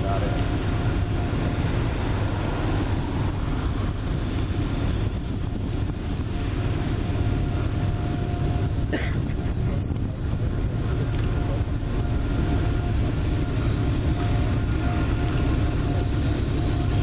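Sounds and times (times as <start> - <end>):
diesel locomotives rumbling under load: 0.0 - 17.0.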